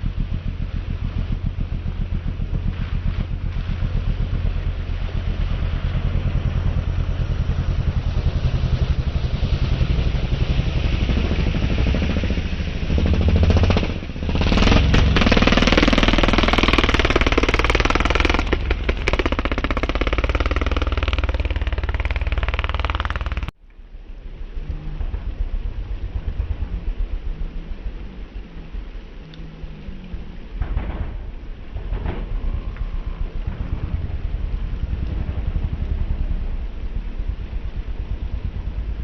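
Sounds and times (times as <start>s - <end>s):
racing engines rumbling: 0.0s - 39.0s.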